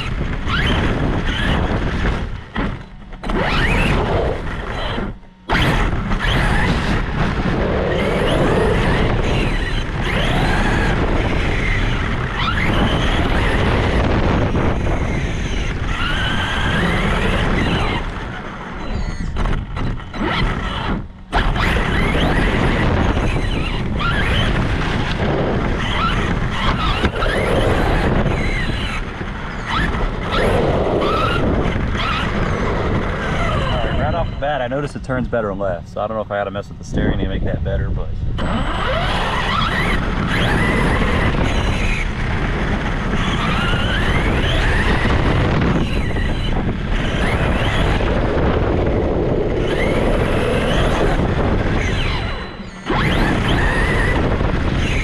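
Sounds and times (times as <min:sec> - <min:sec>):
toy truck motor whine: 0:00.0 - 0:34.4, 0:38.4 - 0:55.0.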